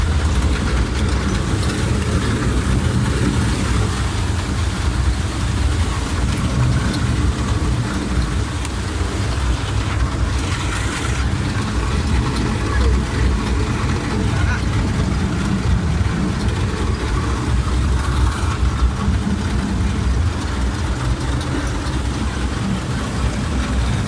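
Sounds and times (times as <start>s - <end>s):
continuous rushing noise: 0.0s - 24.0s
loud hiss: 0.0s - 24.0s
vehicle engine running: 0.0s - 24.0s.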